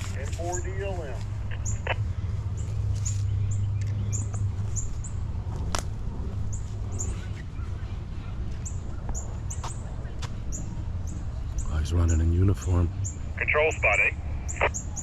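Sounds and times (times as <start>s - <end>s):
steady low rumble: 0.0s - 14.7s.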